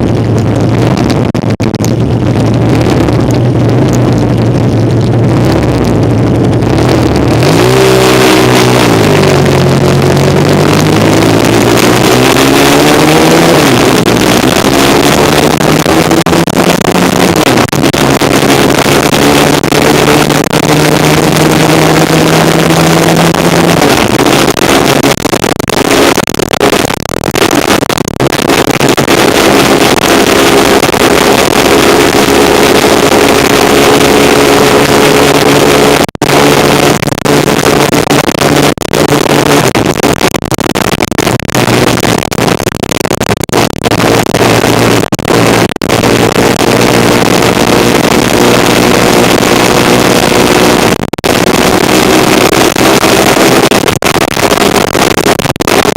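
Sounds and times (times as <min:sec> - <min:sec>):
motorcycle engine running: 0:00.0 - 0:55.9
road noise: 0:00.0 - 0:55.9
wind noise on microphone: 0:00.0 - 0:55.9.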